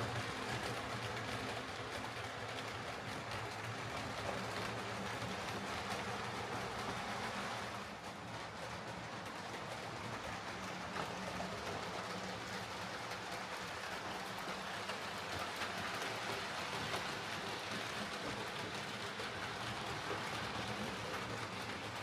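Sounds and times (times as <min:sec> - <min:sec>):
model train whirring and rattling: 0:00.0 - 0:22.0.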